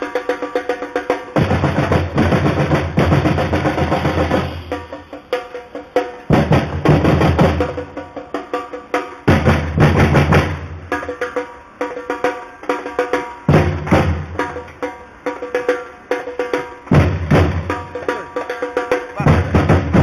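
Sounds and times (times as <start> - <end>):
percussion band drumming fast rhythm: 0.0 - 20.0.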